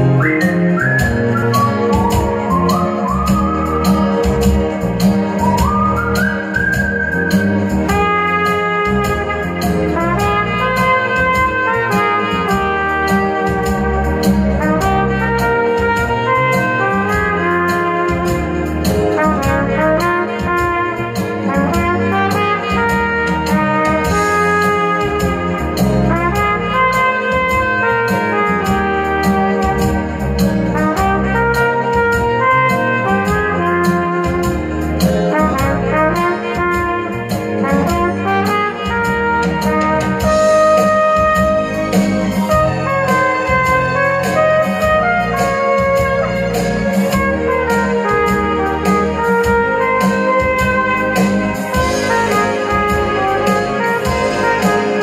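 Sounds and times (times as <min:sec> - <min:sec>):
backing track with bass line: 0:00.0 - 0:55.0
trumpet playing slow melody: 0:00.0 - 0:55.0.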